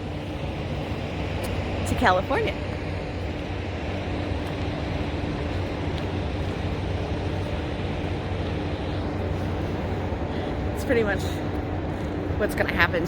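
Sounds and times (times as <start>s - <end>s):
semi truck idling hum: 0.0s - 13.0s.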